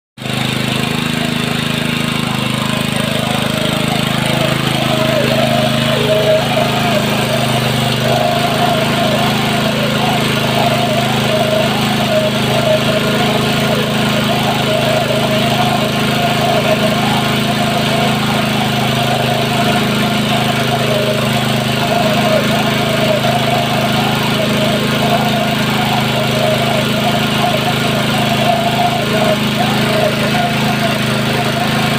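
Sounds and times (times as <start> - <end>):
small gasoline engine pump running: 0.2 - 31.9.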